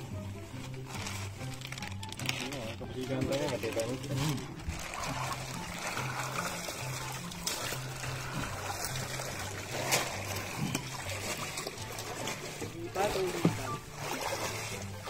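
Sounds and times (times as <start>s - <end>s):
seawater sloshing and trickling: 0.0s - 15.0s
water pouring from bag: 0.0s - 15.0s
water splashes: 2.1s - 15.0s.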